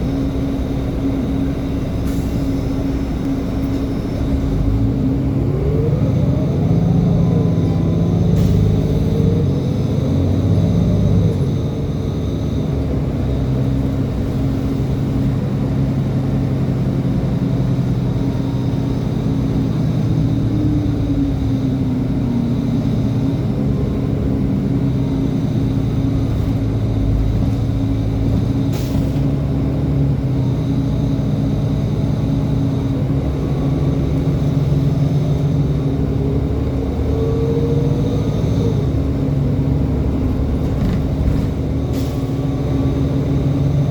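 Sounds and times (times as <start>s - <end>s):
bus engine running: 0.0s - 43.9s.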